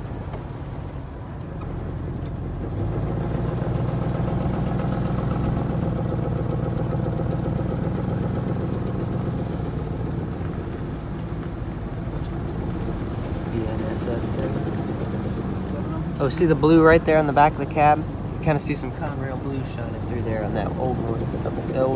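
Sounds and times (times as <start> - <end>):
car engine hum: 0.0 - 21.9.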